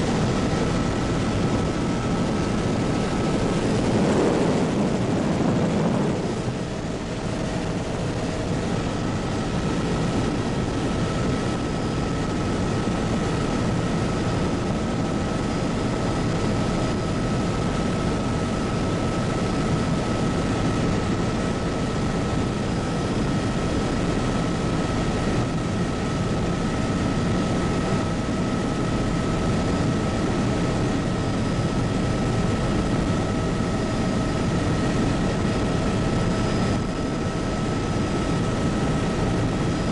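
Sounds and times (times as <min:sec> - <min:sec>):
helicopter engine and rotor drone: 0:00.0 - 0:39.9
thin steady whine: 0:00.0 - 0:39.9.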